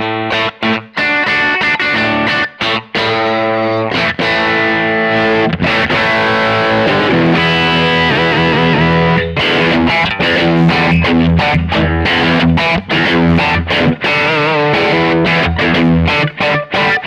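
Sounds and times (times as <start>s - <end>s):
amplified electric guitar: 0.0s - 17.0s.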